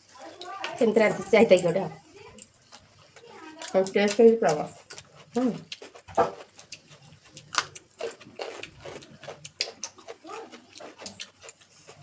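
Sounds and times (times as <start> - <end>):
chewing and lip-smacking: 0.3 - 12.0.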